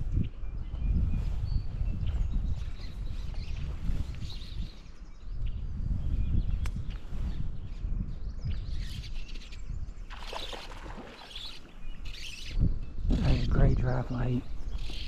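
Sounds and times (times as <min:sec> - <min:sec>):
songbirds chirping: 0:00.0 - 0:15.0
wind rumbling on microphone: 0:00.0 - 0:15.0.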